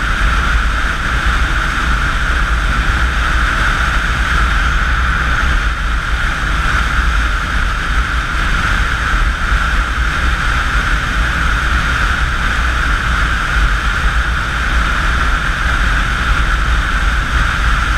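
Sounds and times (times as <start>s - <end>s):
motorcycle engine drone: 0.0s - 17.9s
wind rush: 0.0s - 17.9s.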